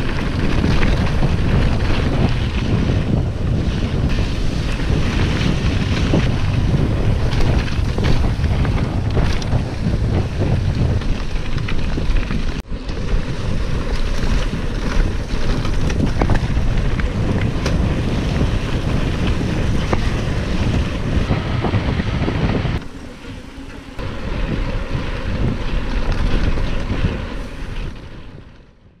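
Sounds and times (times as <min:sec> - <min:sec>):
tyres rumbling on road: 0:00.0 - 0:28.6
bike clicks and rattles: 0:00.0 - 0:28.7
wind buffeting microphone: 0:00.0 - 0:29.0.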